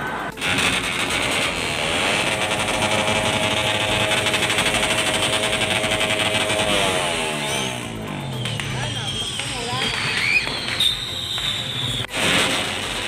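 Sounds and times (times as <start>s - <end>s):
small motorcycle engine running: 0.1s - 10.8s, 11.7s - 13.0s.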